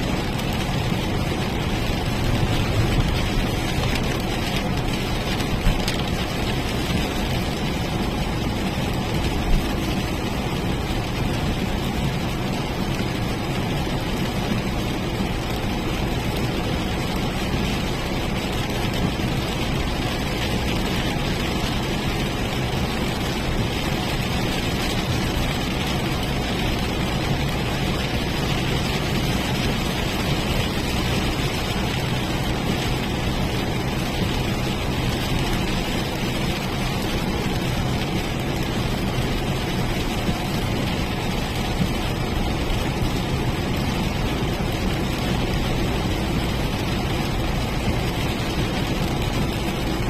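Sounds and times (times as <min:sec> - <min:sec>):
car engine and tyres rumbling: 0:00.0 - 0:50.0.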